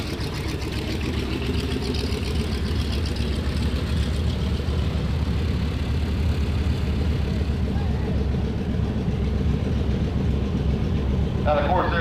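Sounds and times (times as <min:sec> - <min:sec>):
radial aircraft engine droning: 0:00.0 - 0:12.0.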